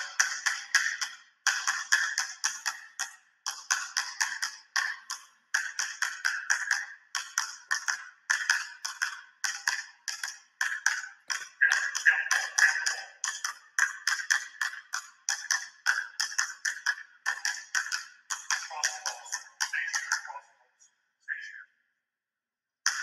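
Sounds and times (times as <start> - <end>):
basketballs bouncing on hardwood: 0.0 - 20.4.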